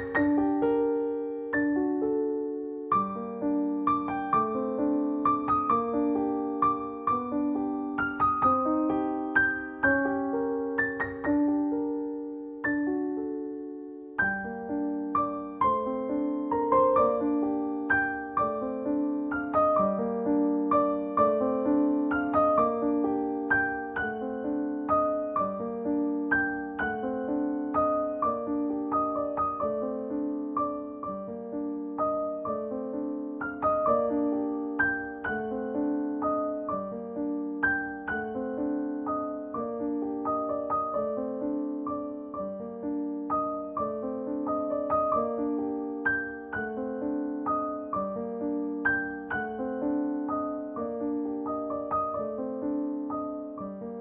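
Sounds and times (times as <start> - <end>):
background piano music: 0.0 - 54.0.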